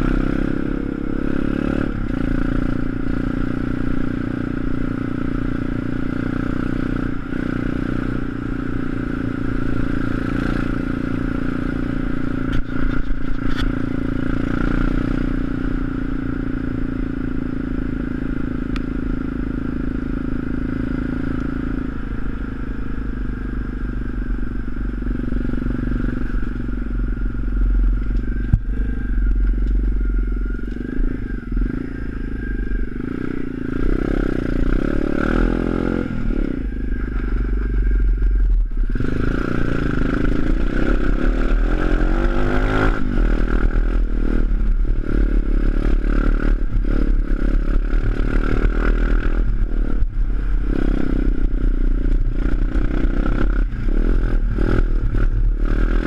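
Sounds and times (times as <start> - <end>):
small motorbike engine running: 0.0 - 56.0.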